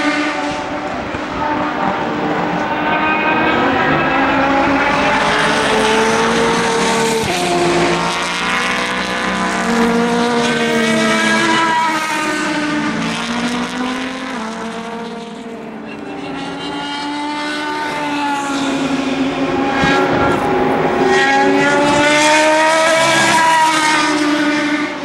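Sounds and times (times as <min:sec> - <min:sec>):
racing car engines passing: 0:00.0 - 0:25.0.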